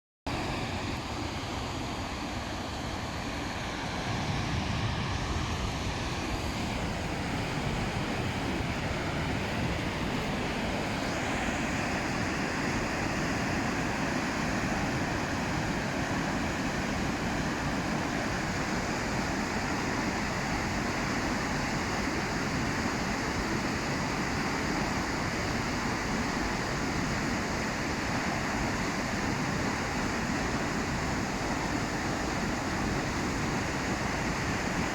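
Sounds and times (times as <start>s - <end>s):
river rushing over weir: 0.3s - 34.9s.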